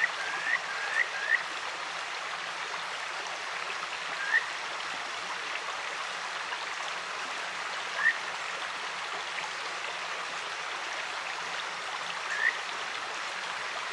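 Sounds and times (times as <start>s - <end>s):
stream running: 0.0s - 13.9s.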